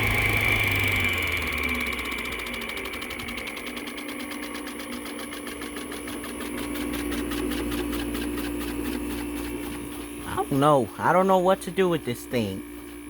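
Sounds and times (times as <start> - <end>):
rapid rattle: 0.0 - 10.6
air conditioner humming: 2.0 - 13.0.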